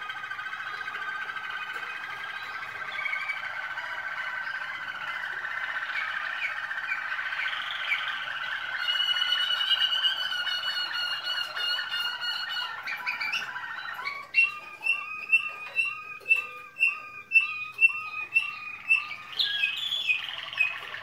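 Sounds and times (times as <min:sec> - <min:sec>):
canary trilling song: 0:00.0 - 0:21.0.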